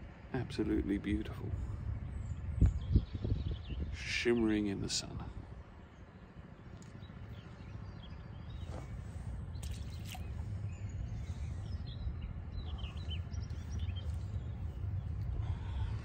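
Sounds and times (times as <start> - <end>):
low outdoor rumble: 0.0 - 16.0
small birds chirping: 0.4 - 16.0.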